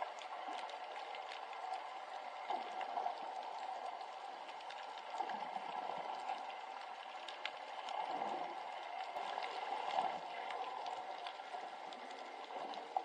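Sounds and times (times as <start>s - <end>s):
light ticks: 0.0s - 13.0s
water bubbling and sloshing: 0.0s - 13.0s.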